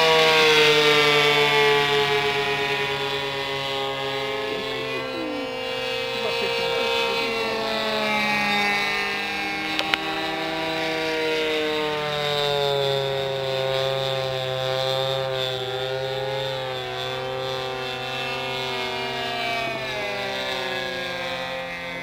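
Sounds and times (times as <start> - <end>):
model plane engine buzzing: 0.0 - 22.0.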